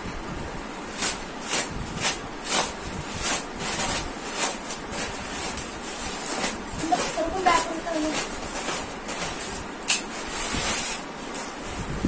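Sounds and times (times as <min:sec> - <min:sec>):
packing wrap rustling and crackling: 0:00.9 - 0:12.0.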